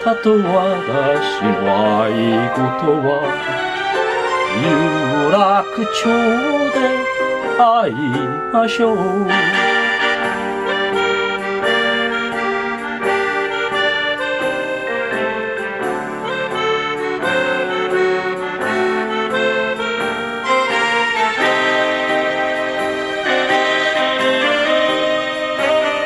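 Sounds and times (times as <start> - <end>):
instrumental melody over held chords: 0.0 - 26.0.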